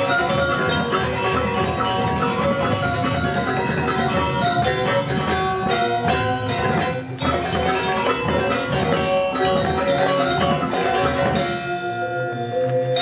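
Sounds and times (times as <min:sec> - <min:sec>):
gamelan metallophones playing: 0:00.0 - 0:13.0.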